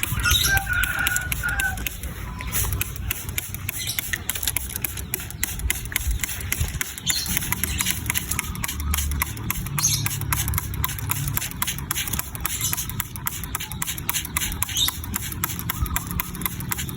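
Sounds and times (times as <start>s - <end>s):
wings fluttering: 0.0s - 16.9s.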